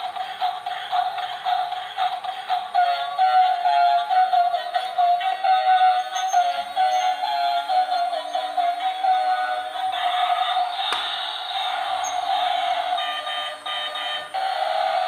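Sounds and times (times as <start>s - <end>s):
toy car electronic tune: 0.0s - 15.0s.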